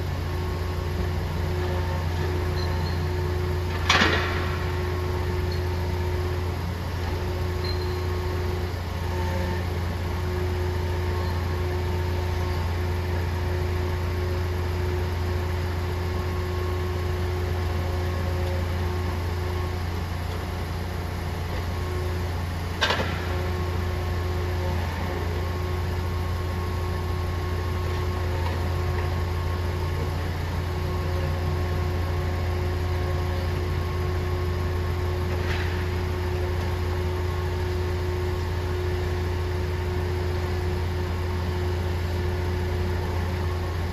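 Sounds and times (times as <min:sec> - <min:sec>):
hydraulic crane whine: 0:00.0 - 0:43.9.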